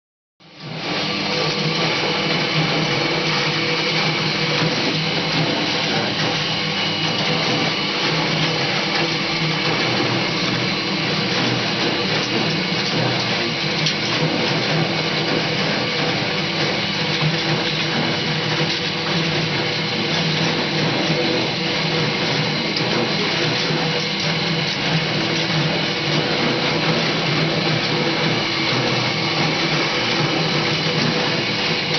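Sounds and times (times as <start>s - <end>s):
washing machine motor whirring: 0.4s - 31.9s.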